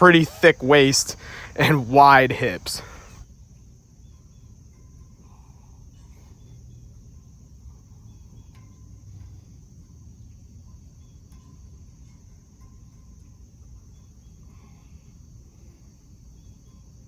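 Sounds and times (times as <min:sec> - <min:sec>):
crickets droning: 0:00.0 - 0:17.0.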